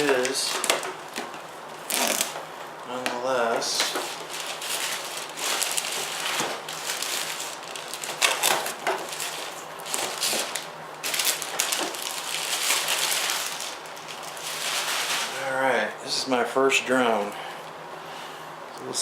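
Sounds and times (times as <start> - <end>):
packaging crinkling and rustling: 0.0 - 15.5.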